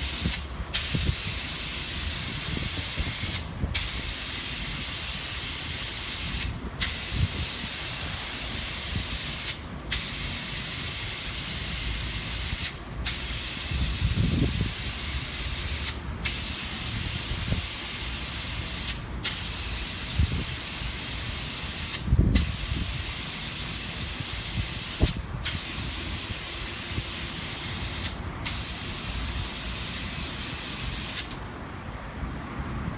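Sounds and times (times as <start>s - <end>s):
spray gun hissing: 0.0s - 31.4s.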